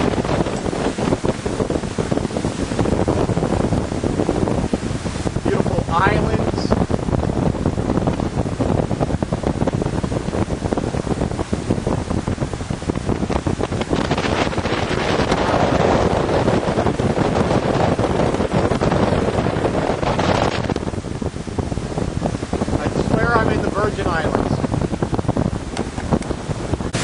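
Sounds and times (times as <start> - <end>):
boat engine and water rushing: 0.0 - 27.0
wind buffeting microphone: 0.0 - 27.0.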